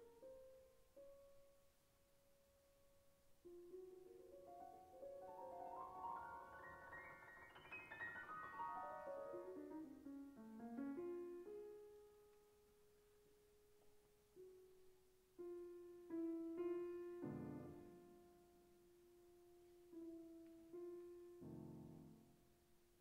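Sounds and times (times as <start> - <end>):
piano playing quietly: 0.0 - 22.8.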